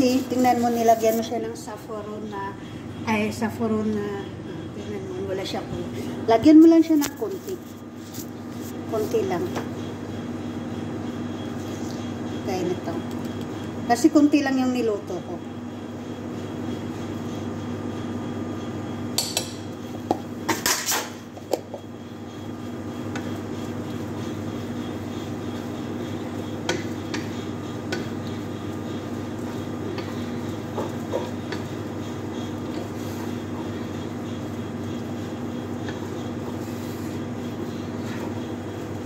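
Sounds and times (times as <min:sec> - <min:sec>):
kitchen hum: 0:00.0 - 0:39.0.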